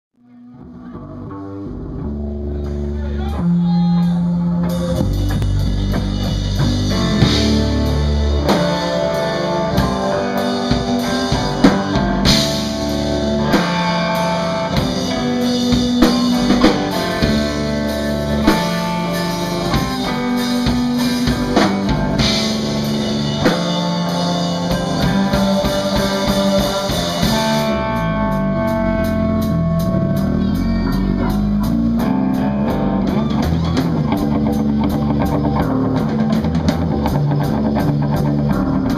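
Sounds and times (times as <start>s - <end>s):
electric bass: 0.2s - 38.9s
electric guitar: 0.2s - 38.9s
drum kit: 0.5s - 38.9s.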